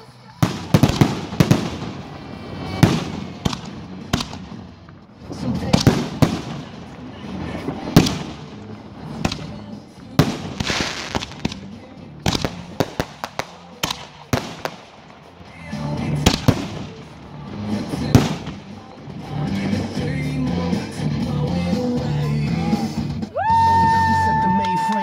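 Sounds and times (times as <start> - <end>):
fireworks bangs and pops: 0.0 - 23.3
music: 0.0 - 25.0.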